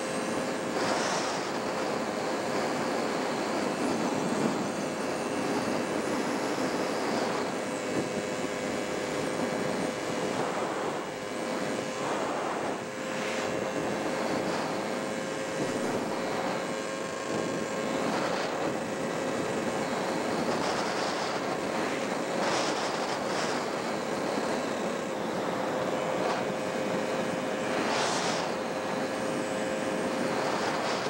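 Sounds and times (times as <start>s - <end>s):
car road and wind noise: 0.0s - 31.0s.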